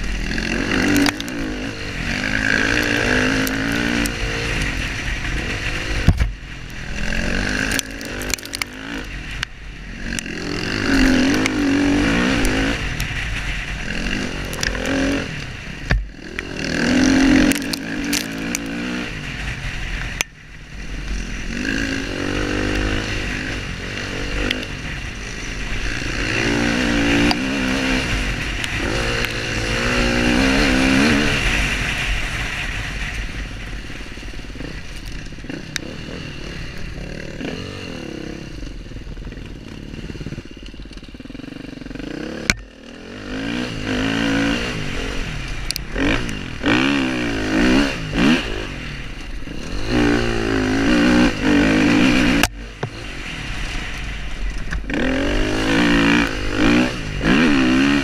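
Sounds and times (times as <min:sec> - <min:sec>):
dirt bike engine revving: 0:00.0 - 0:58.0
wind noise: 0:00.0 - 0:58.0.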